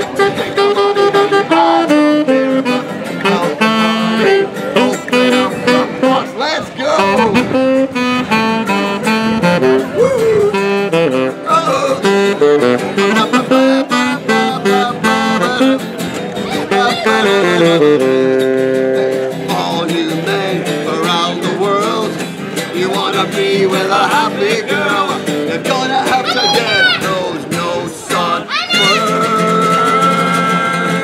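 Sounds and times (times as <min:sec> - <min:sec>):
saxophone melody: 0:00.0 - 0:27.3, 0:28.4 - 0:31.0
strummed guitar chords: 0:00.0 - 0:31.0.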